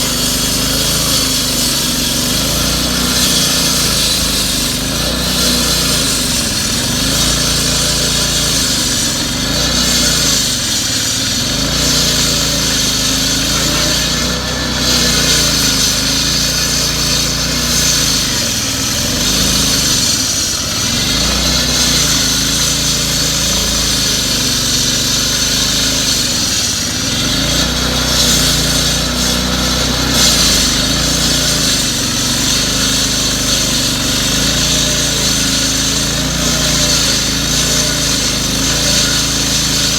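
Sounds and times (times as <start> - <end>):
engine-driven power tool running: 0.0 - 39.9.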